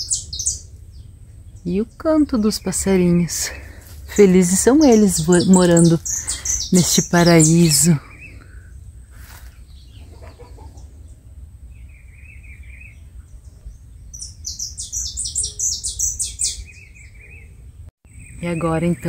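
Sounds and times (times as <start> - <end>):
songbirds singing: 0.0 - 19.0.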